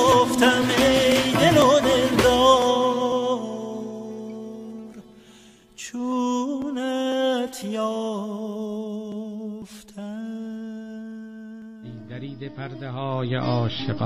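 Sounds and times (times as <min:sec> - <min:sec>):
person singing long held notes: 0:00.0 - 0:13.7.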